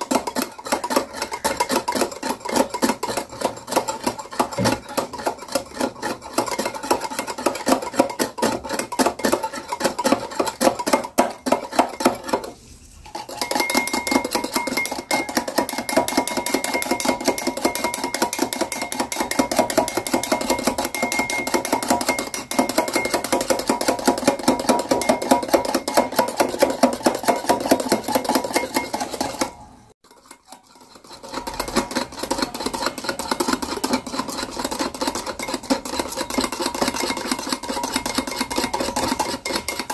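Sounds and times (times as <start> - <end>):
whisk scraping glass bowl: 0.0 - 39.9.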